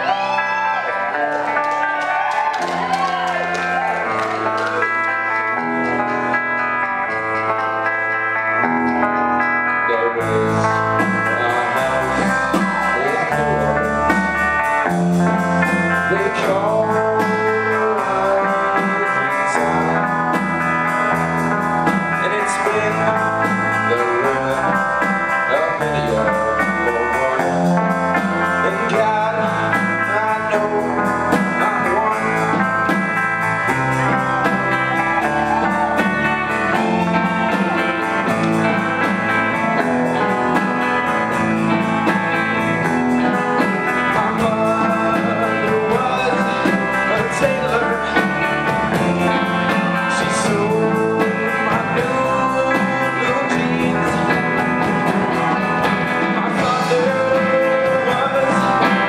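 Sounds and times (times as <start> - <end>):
bending electric guitar lines: 0.0 - 59.0
live rock band playing: 0.0 - 59.0.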